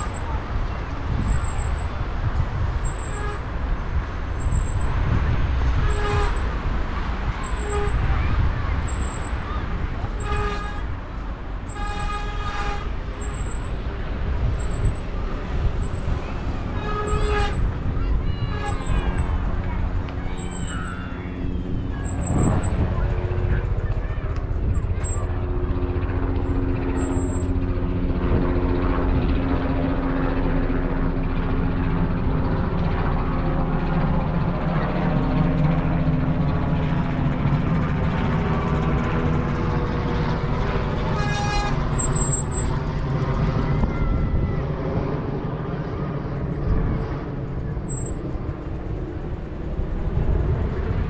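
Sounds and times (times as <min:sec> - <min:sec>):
engine running steadily: 0:00.0 - 0:51.0
motor vehicle rumble: 0:00.0 - 0:51.0.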